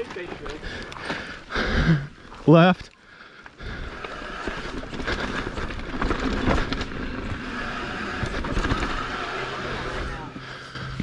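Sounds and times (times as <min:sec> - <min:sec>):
bike rattling and clicking: 0:00.0 - 0:11.0
mountain bike tyres rolling on dirt: 0:00.0 - 0:11.0.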